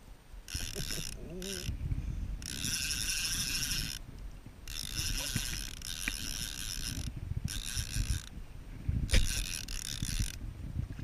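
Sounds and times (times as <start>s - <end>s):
fishing reel gears whirring: 0.4s - 1.8s, 2.4s - 10.5s.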